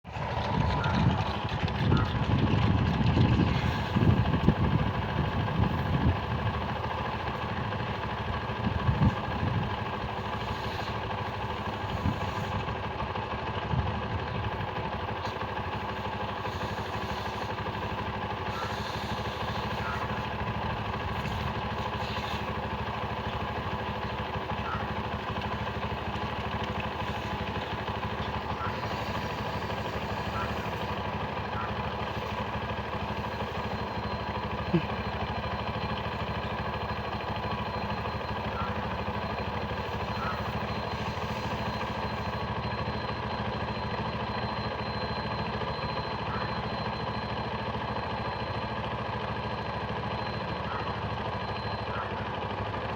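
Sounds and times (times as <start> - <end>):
engine running: 0.0 - 52.9
engine knocks: 0.1 - 44.0.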